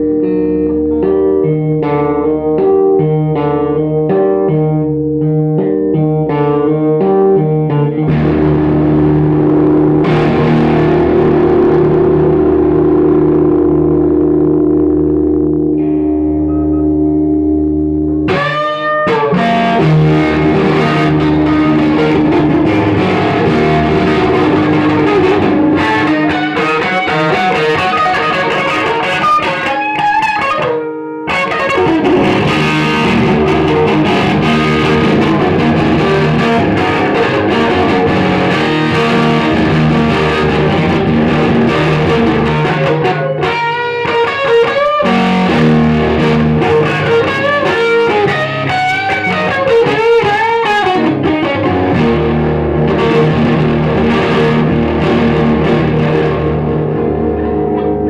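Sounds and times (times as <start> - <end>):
held drone: 0.0 - 2.3, 8.1 - 18.6, 19.2 - 30.0, 31.4 - 58.0
guitar music: 0.0 - 58.0.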